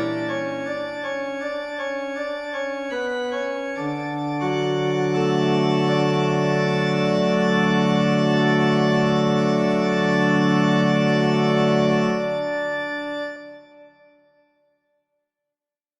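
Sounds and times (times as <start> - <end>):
organ-like keyboard chords: 0.0 - 14.0.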